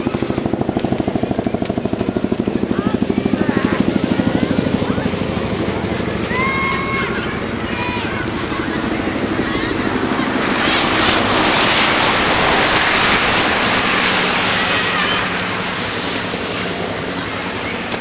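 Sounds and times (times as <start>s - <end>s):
children shouting and playing: 0.0s - 18.0s.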